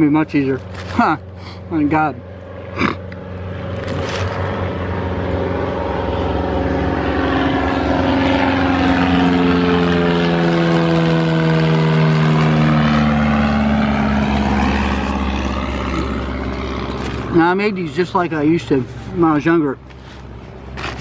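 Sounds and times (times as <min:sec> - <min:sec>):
propeller airplane passing overhead: 0:00.0 - 0:21.0.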